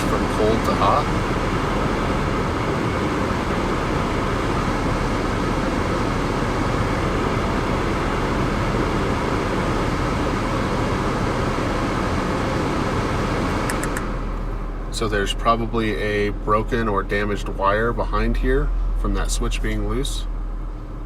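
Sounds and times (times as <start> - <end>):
car climate-control blower rushing: 0.0 - 21.0.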